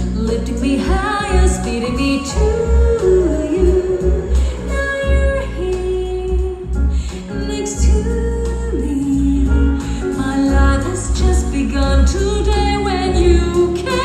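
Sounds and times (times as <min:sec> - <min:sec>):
heavy pulsing bass: 0:00.0 - 0:14.0
woman singing: 0:00.0 - 0:14.0.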